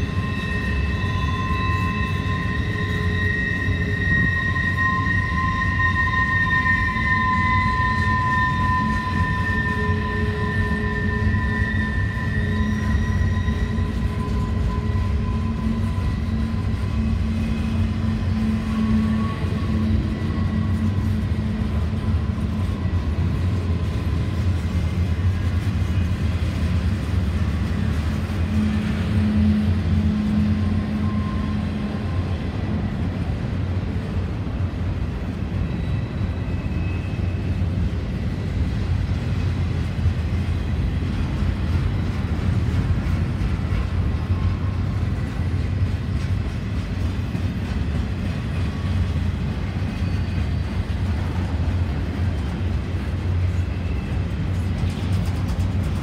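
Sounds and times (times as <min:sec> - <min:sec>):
high wheel squeal: 0:00.0 - 0:39.2, 0:40.6 - 0:55.5
train wheels rumbling on rail: 0:00.0 - 0:56.0.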